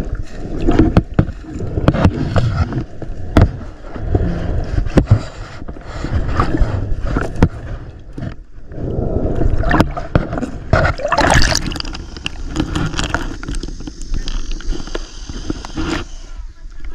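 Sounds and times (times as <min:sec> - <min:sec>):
water splashing and gurgling: 0:00.0 - 0:16.2.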